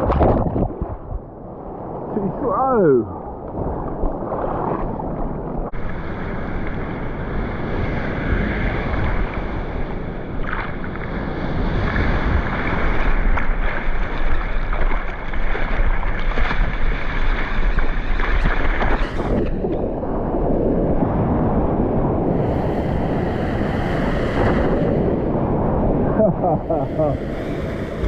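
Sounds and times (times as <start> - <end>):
surf rushing and splashing: 0.0 - 28.0
wind buffeting microphone: 0.0 - 28.0.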